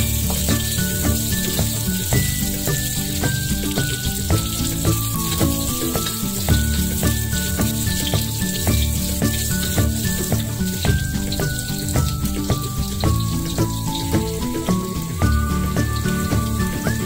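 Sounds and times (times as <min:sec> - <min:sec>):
background music with bass: 0:00.0 - 0:17.0
onion sizzling in hot oil: 0:00.0 - 0:17.0.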